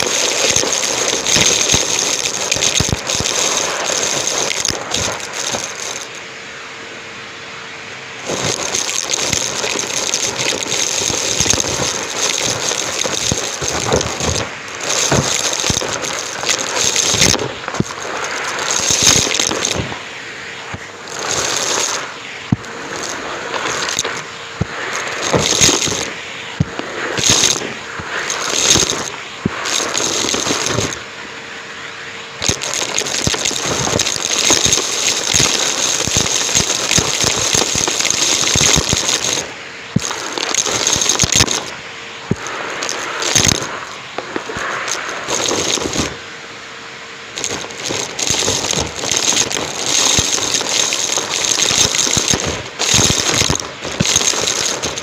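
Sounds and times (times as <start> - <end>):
debris rattling through vacuum: 0.0 - 6.2, 8.2 - 31.2, 32.4 - 46.3, 47.3 - 55.0
vacuum cleaner running: 0.0 - 6.4, 7.5 - 55.0.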